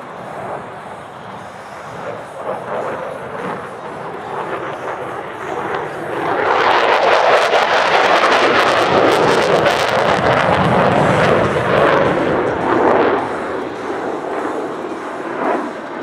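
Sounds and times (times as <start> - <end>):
fighter jet passing with crackle: 0.0 - 16.0.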